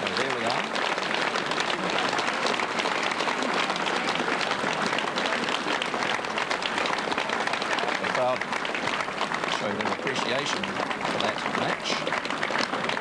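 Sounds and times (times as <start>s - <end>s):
spectators applauding: 0.0s - 13.0s.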